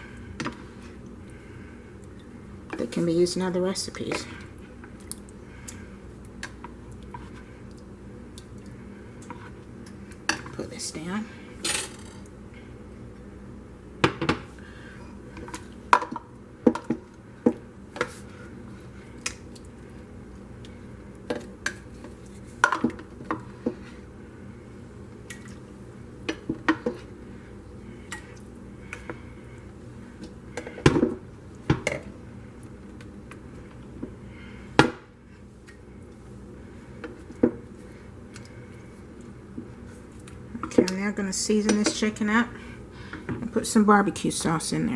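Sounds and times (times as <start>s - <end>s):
low background hum: 0.0s - 44.9s.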